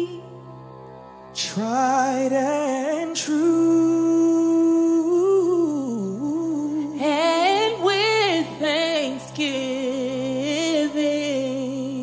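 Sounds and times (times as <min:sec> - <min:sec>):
steady held chord: 0:00.0 - 0:12.0
solo singer with vibrato: 0:01.4 - 0:12.0.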